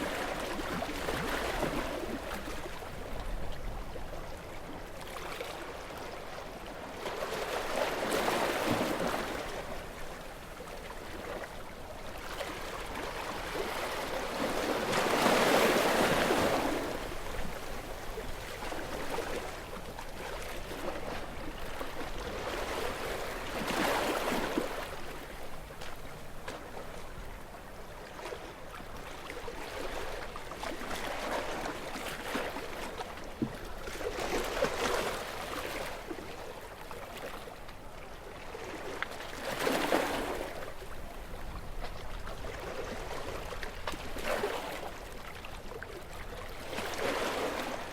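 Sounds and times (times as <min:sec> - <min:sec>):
gentle waves washing onto beach: 0:00.0 - 0:47.9.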